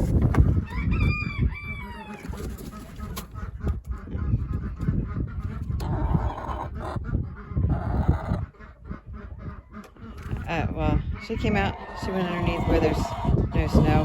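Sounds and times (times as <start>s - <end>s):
poultry calling: 1.6s - 14.0s.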